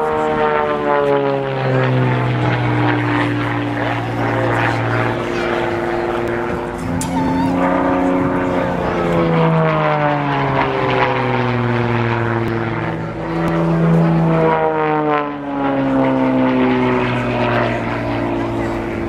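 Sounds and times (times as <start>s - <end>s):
plane engine and propeller: 0.0s - 19.0s.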